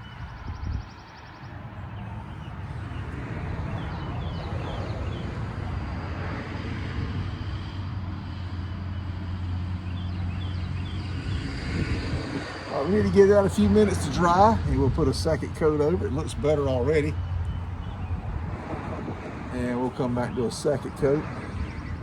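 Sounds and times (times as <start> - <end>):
birds chirping: 0.0 - 22.0
vehicle engine rumbling: 1.4 - 22.0.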